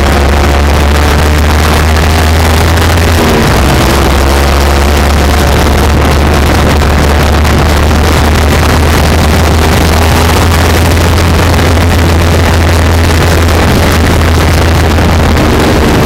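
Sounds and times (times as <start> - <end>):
loud motorcycle exhaust: 0.0 - 16.0.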